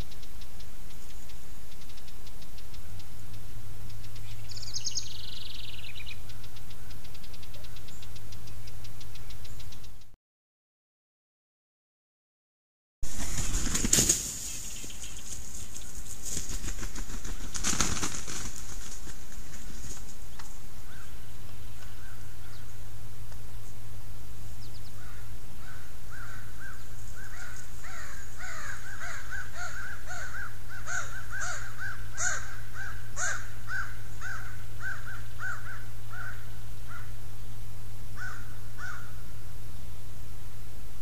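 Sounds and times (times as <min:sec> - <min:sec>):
steady low hum: 0:00.0 - 0:10.2, 0:13.0 - 0:41.0.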